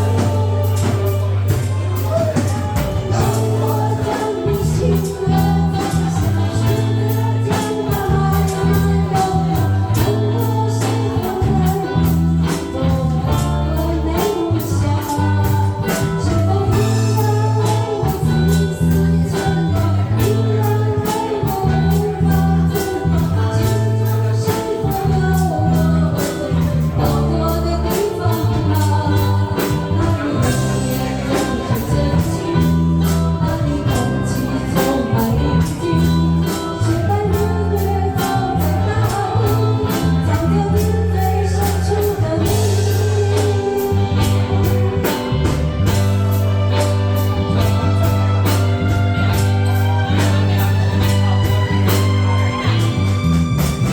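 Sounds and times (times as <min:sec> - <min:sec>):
instrumental accompaniment with beat: 0:00.0 - 0:53.9
person singing pop ballad: 0:00.0 - 0:53.9.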